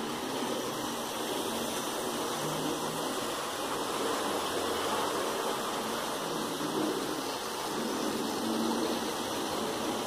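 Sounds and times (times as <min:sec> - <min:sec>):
model train whirring on rails: 0:00.0 - 0:10.0.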